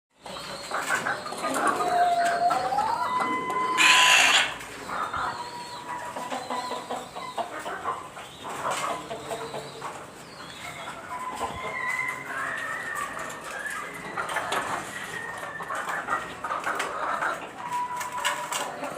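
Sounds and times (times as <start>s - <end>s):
chickens clucking: 0.2s - 18.9s.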